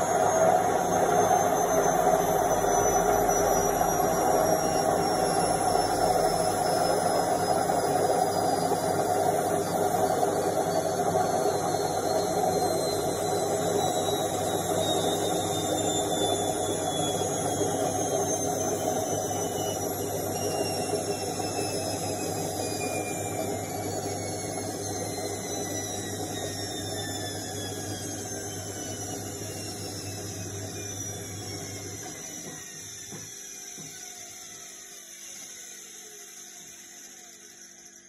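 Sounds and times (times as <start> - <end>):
washing machine spinning down: 0.0 - 38.0.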